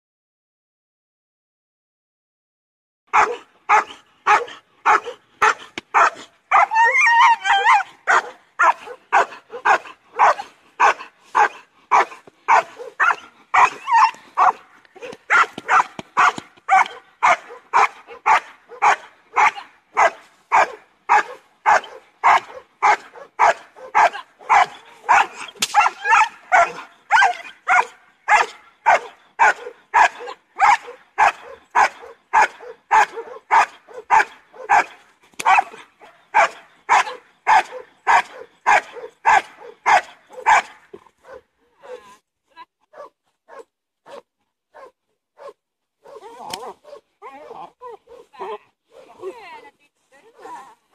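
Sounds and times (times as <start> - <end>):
dog barking rhythmically: 3.1 - 42.0, 42.9 - 47.1.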